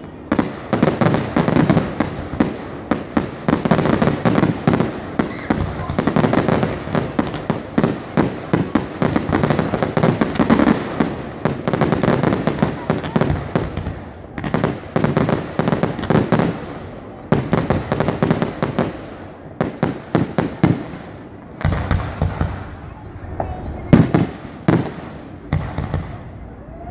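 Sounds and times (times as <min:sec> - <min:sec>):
fireworks bangs and crackle: 0:00.0 - 0:26.8.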